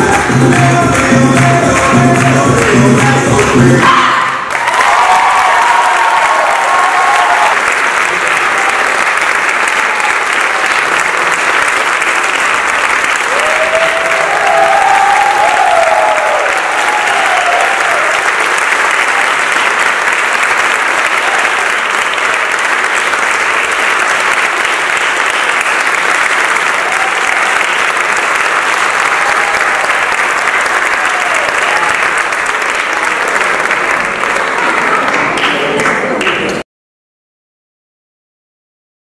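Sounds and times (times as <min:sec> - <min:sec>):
audience applauding: 0:00.0 - 0:36.6.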